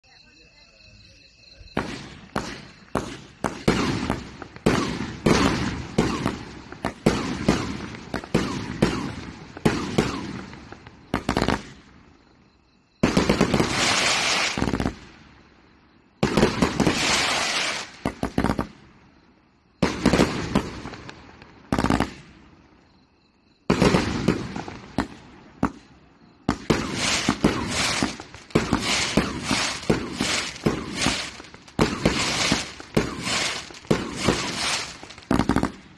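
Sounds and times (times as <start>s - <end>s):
firework crackle: 1.8s - 12.0s, 13.0s - 15.4s, 16.2s - 19.0s, 19.8s - 22.6s, 23.7s - 35.9s
firework launches and bursts: 1.8s - 12.0s, 13.0s - 15.5s, 16.2s - 19.0s, 19.8s - 22.6s, 23.7s - 35.9s.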